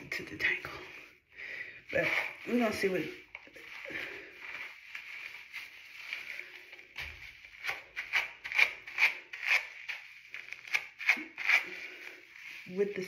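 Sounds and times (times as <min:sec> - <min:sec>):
wet hair rubbing: 0:01.9 - 0:13.0.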